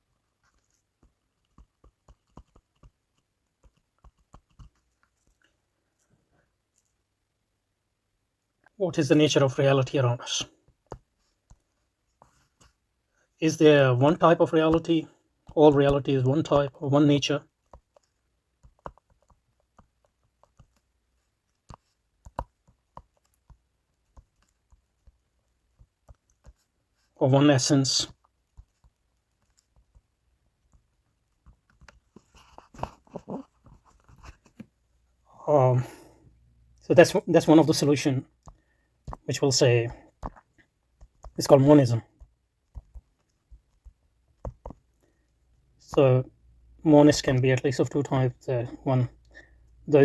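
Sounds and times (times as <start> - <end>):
faint irregular clicks: 0.0 - 7.1, 10.4 - 35.2, 36.0 - 50.0.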